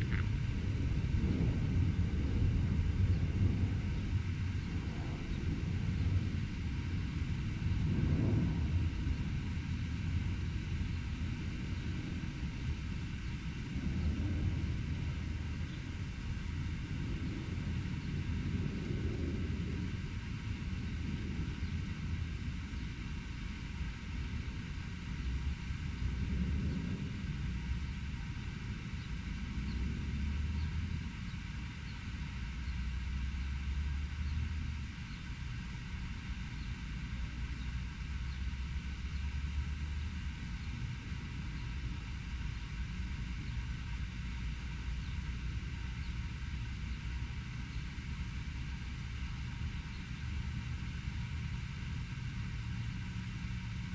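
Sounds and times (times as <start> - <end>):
traffic rumble: 0.0 - 53.9.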